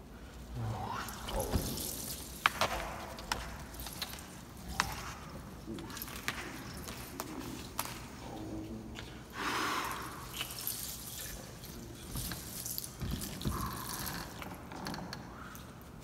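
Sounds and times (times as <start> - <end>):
liquid dripping and splashing: 0.8 - 8.5, 9.1 - 15.8.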